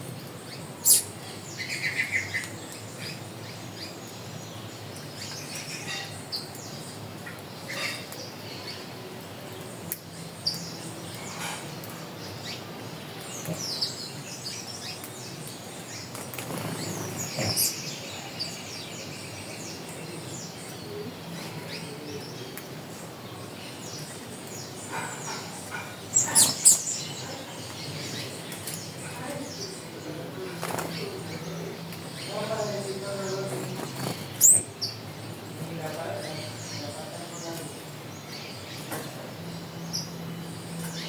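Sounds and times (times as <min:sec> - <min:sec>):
wild birds chirping: 0:00.0 - 0:41.0.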